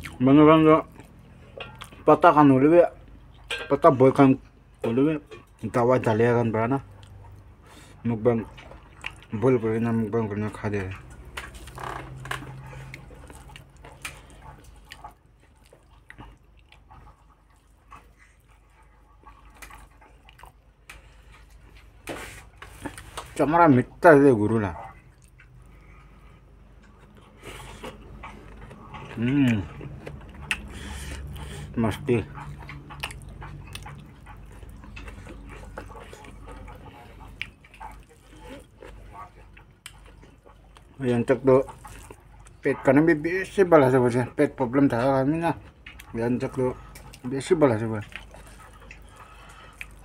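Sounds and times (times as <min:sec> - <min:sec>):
wet chewing smacks: 0:00.0 - 0:02.2, 0:06.7 - 0:10.0, 0:10.7 - 0:23.4, 0:24.5 - 0:50.0.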